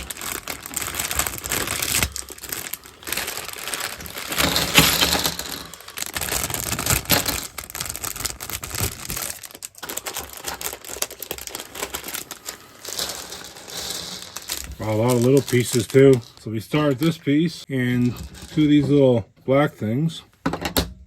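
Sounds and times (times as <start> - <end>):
plastic pieces clicking and rattling: 0.0 - 17.2, 18.0 - 18.9
plastic bag crinkling: 0.0 - 18.8.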